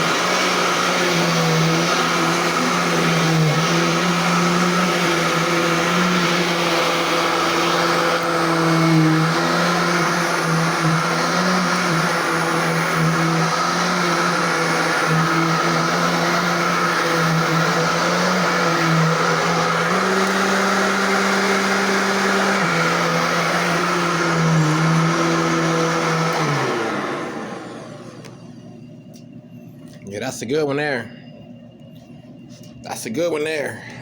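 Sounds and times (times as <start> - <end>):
vacuum cleaner running: 0.0 - 29.3.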